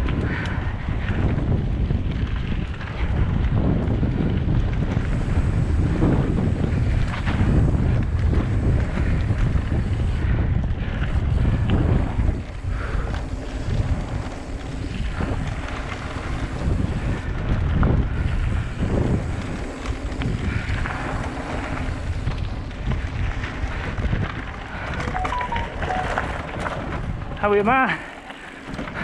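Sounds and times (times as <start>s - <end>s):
bike rattling and knocking: 0.0s - 25.1s
wind buffeting microphone: 0.0s - 27.6s.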